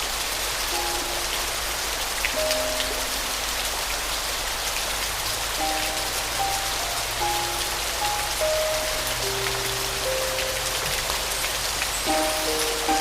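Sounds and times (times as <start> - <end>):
soft piano playing: 0.0 - 13.0
steady rainfall hiss: 0.0 - 13.0
water drips: 0.0 - 13.0.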